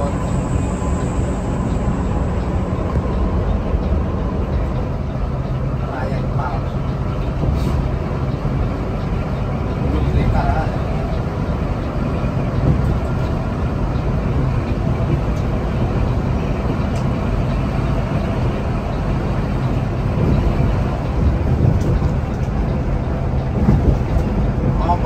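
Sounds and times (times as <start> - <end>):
diesel engine drone: 0.0 - 25.0
road and tyre noise: 0.0 - 25.0.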